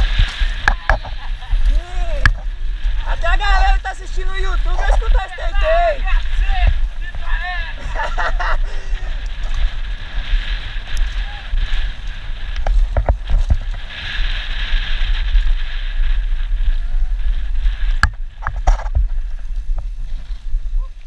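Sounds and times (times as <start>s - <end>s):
tyres rumbling on dirt trail: 0.0s - 21.0s
wind buffeting microphone: 0.0s - 21.0s.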